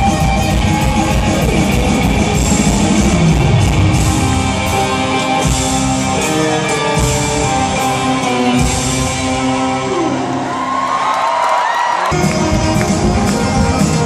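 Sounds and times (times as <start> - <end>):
live band playing: 0.0 - 10.7, 12.0 - 14.0
electric guitar holding long notes: 0.0 - 11.2, 11.9 - 14.0.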